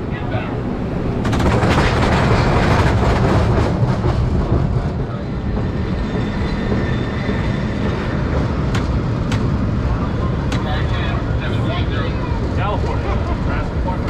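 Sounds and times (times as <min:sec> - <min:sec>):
streetcar wheels rumbling on track: 0:00.0 - 0:14.0.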